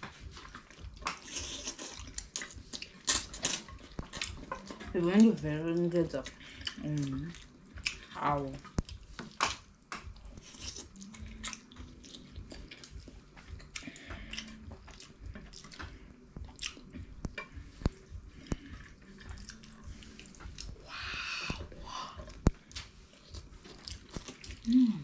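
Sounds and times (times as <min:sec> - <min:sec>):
spaghetti slurping and chewing: 0:00.0 - 0:04.9, 0:06.3 - 0:25.0.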